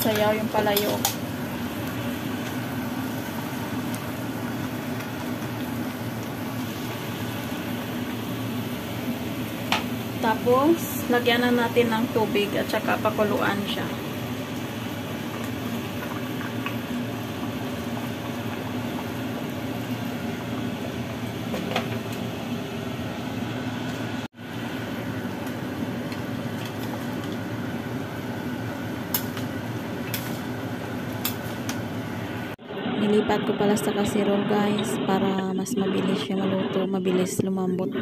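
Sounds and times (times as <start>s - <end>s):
liquid bubbling and sizzling in wok: 0.0s - 33.1s.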